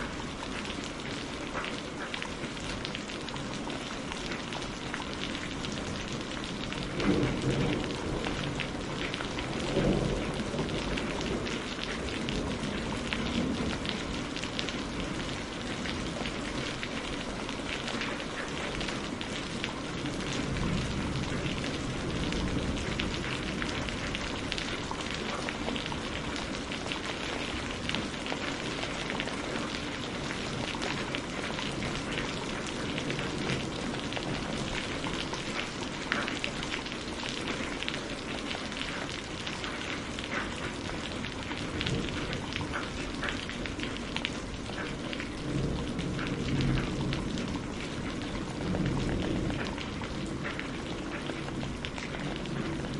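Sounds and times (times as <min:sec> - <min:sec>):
rain pattering: 0:00.0 - 0:52.9.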